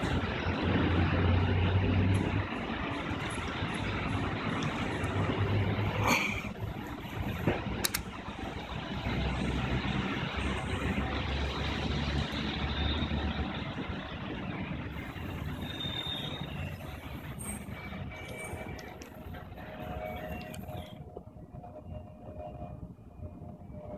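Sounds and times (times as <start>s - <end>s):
road traffic: 0.0s - 23.9s.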